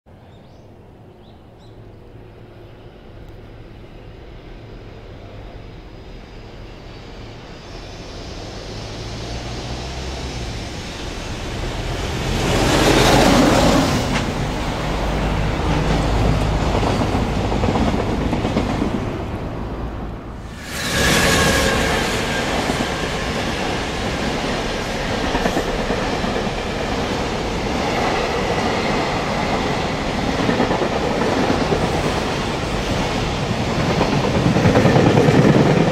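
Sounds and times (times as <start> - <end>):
freight train wheels rumbling on rail: 1.6 - 35.9.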